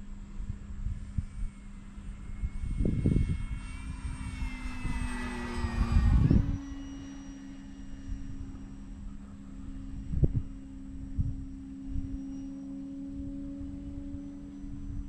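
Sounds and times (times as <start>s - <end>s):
rc plane motor hum: 0.0s - 15.0s
wind buffeting microphone: 0.0s - 15.0s.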